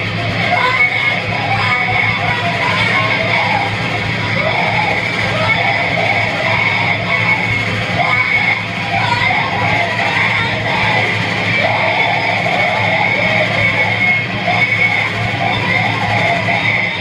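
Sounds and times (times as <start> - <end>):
distorted noise music: 0.0 - 17.0
high whine: 0.0 - 17.0
low hum: 0.0 - 17.0
wavering mid-range drone: 0.0 - 17.0.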